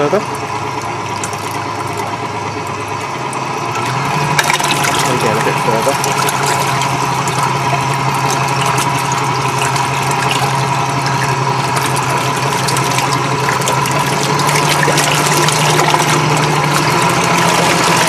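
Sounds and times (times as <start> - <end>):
electric motor hum: 0.0 - 18.0
propeller churning water: 0.0 - 18.0.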